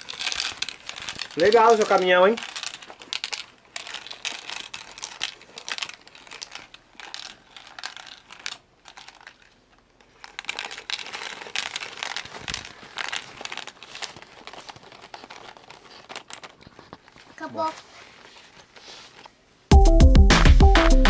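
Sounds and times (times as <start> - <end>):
candies rattling in plastic drum: 0.0 - 18.2.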